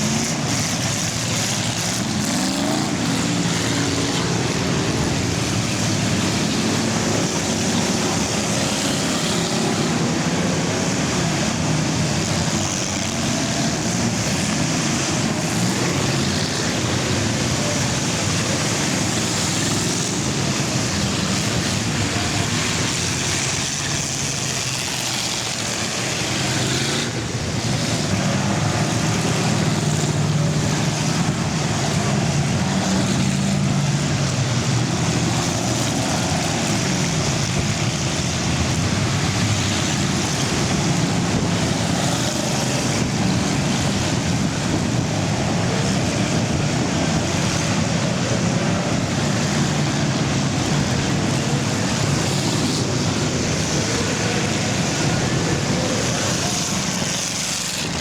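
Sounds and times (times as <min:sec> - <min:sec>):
many racing car engines: 0:00.0 - 0:58.0.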